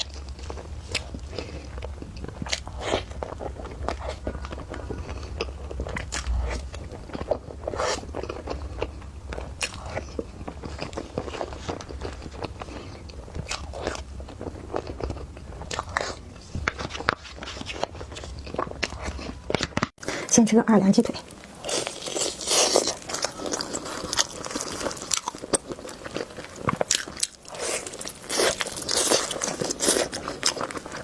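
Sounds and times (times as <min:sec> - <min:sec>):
wet biting and chewing: 0:00.0 - 0:20.3, 0:21.0 - 0:31.0.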